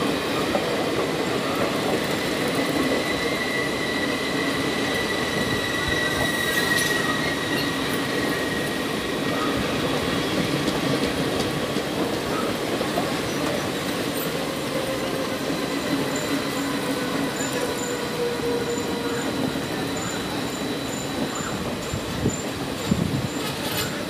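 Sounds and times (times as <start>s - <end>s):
train wheels rumbling on rails: 0.0s - 24.0s
high squeal of train brakes: 1.2s - 10.4s, 12.2s - 24.0s.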